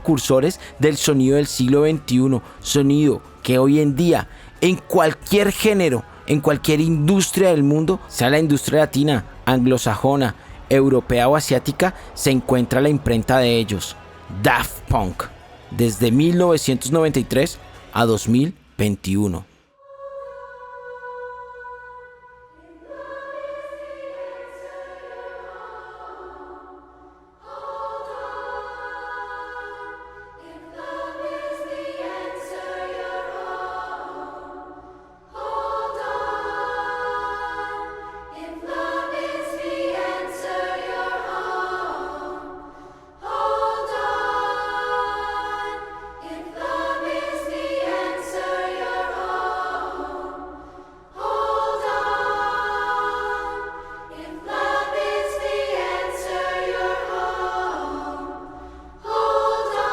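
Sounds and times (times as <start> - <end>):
choir singing held chords: 0.0 - 59.9.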